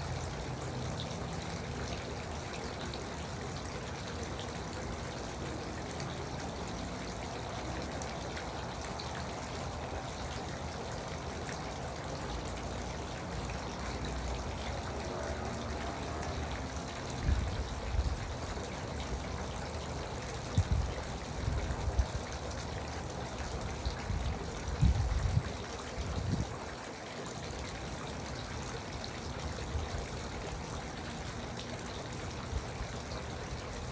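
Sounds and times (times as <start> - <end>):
fountain water trickling: 0.0 - 33.9.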